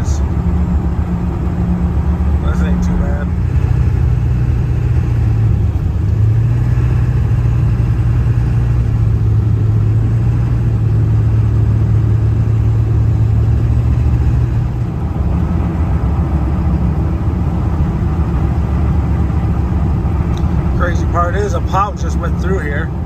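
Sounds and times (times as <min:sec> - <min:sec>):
road noise: 0:00.0 - 0:23.0
truck engine drone: 0:00.0 - 0:23.0.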